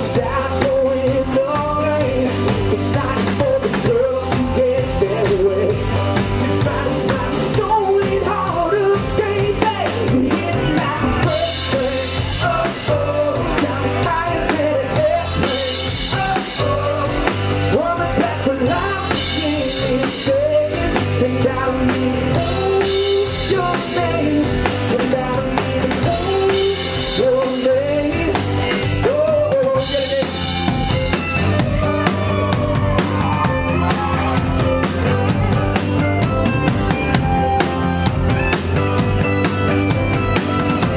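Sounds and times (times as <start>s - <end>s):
bending melody line: 0.0s - 40.9s
drum kit beat: 0.0s - 40.9s.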